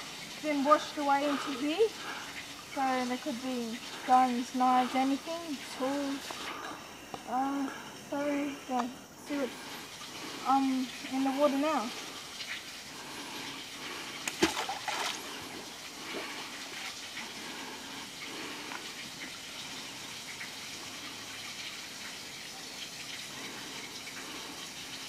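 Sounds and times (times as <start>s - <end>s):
trickling gushing water: 0.0s - 25.0s.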